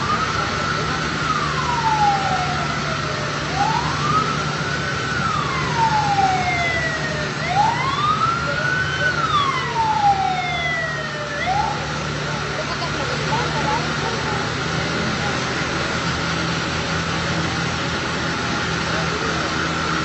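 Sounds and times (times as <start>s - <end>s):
emergency vehicle siren wailing: 0.0s - 20.0s.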